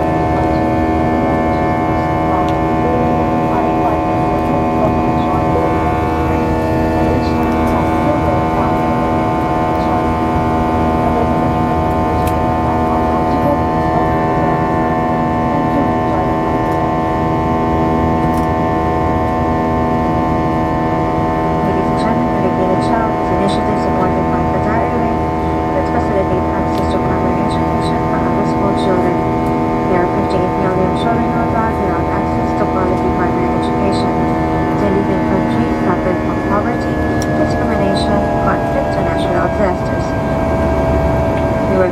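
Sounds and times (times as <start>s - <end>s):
airplane cabin droning hum: 0.0s - 41.9s.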